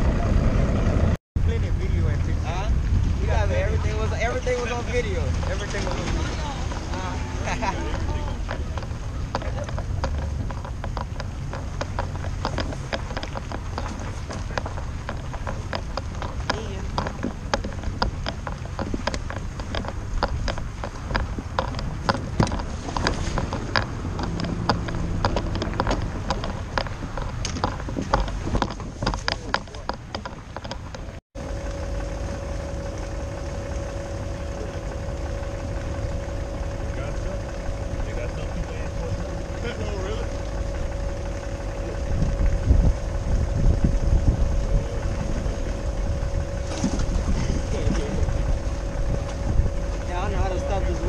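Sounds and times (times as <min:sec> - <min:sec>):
truck engine idling: 0:00.0 - 0:28.6, 0:29.3 - 0:51.0
boat trailer rattling: 0:00.0 - 0:51.0
road and wind rumble: 0:00.0 - 0:51.0.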